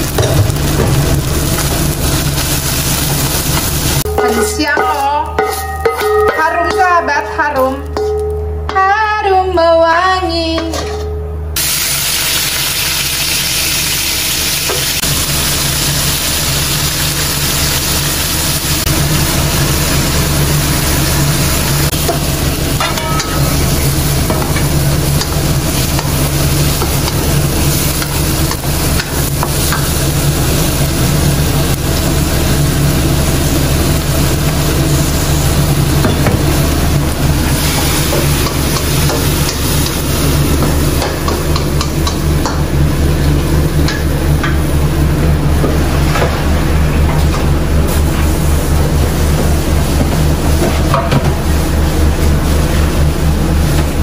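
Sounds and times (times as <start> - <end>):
food sizzling in a wok: 0.0 - 8.3, 11.6 - 54.0.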